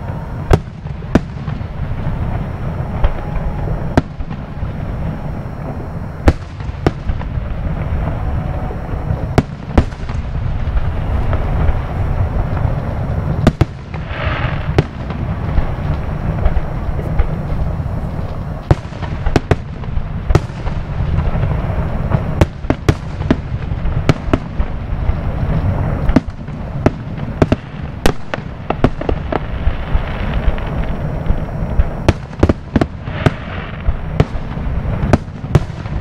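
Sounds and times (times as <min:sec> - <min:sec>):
low rumble: 0:00.0 - 0:32.4
fireworks bursting: 0:00.0 - 0:36.0.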